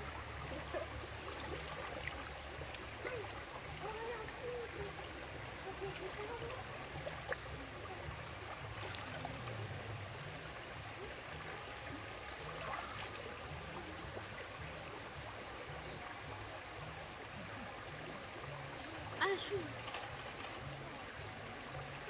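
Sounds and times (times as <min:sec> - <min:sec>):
river water flowing over rocks: 0:00.0 - 0:22.0.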